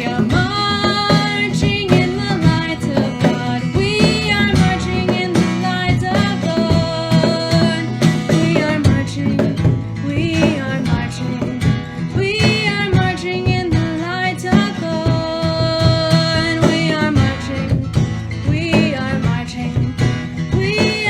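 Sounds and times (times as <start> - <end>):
person singing: 0.0 - 17.8, 20.5 - 21.0
strummed acoustic guitar: 0.0 - 21.0.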